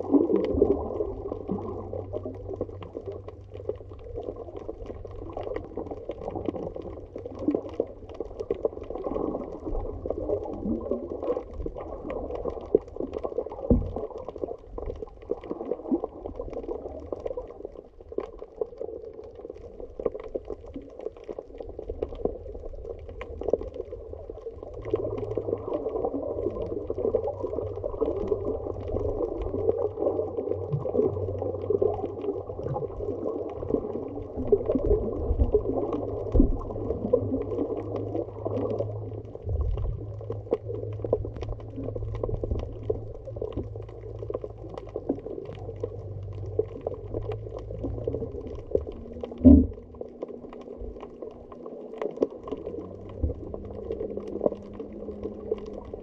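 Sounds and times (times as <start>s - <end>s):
underwater moving water: 0.0s - 56.0s
faint clicks: 1.3s - 56.0s.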